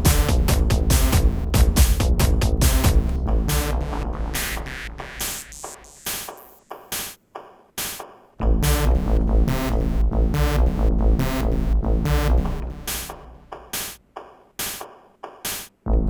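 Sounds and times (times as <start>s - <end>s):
electronic beat with synths: 0.0s - 16.0s.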